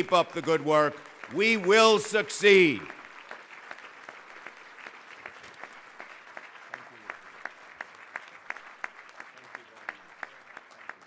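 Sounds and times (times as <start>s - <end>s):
audience applauding: 0.0s - 11.0s
close hand claps: 0.0s - 11.0s.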